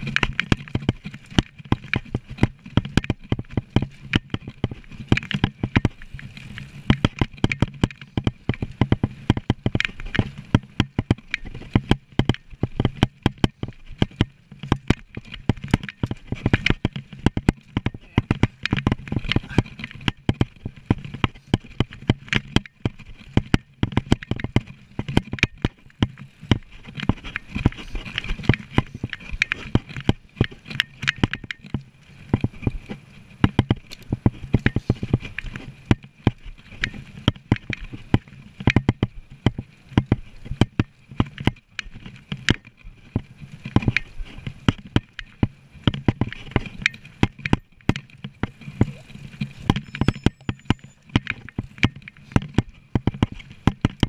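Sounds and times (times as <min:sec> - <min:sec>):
bike rattling over bumps: 0:00.0 - 0:54.0.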